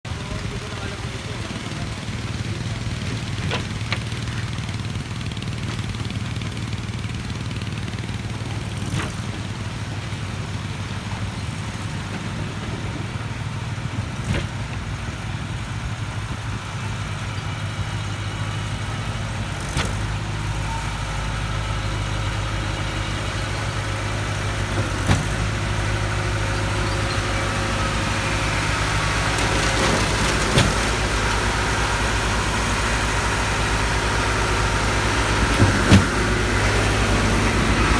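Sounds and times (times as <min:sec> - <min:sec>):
concrete pump engine running: 0:00.1 - 0:37.9.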